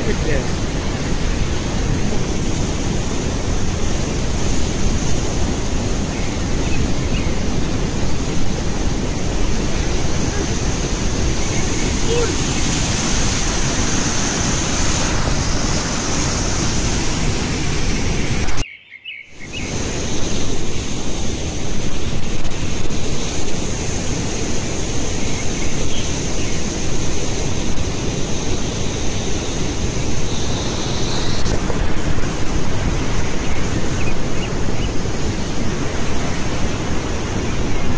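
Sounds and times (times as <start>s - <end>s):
waterfall roaring: 0.0s - 18.6s, 19.5s - 37.9s.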